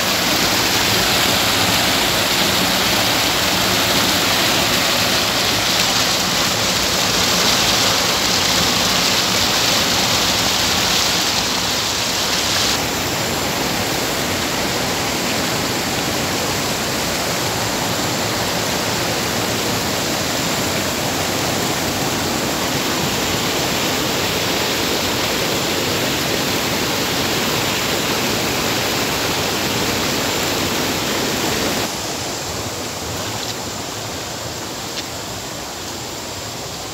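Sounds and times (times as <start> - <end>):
water rushing over a drop: 0.0 - 36.9.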